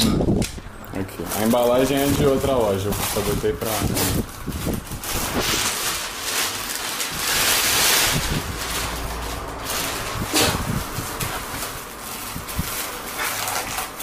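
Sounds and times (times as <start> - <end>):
plastic bag rustling: 0.9 - 14.0.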